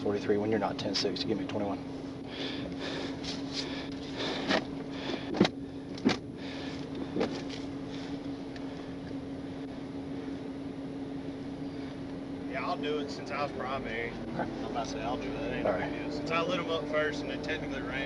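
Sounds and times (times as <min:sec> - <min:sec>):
vehicle humming: 0:00.0 - 0:18.0.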